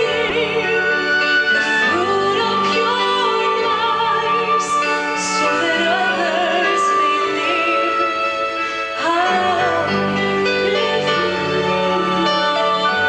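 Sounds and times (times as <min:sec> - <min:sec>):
vocal group singing slow song: 0:00.0 - 0:13.0.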